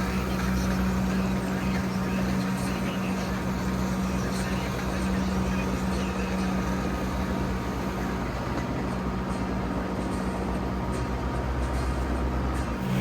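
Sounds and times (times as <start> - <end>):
skid steer engine humming: 0.0 - 13.0.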